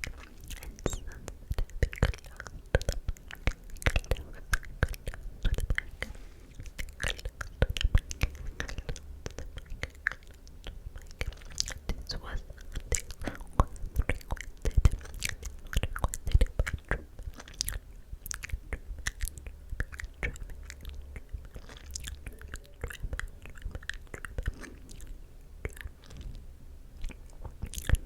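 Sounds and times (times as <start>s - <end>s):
lip and tongue clicks: 0.0s - 26.4s, 27.0s - 28.0s.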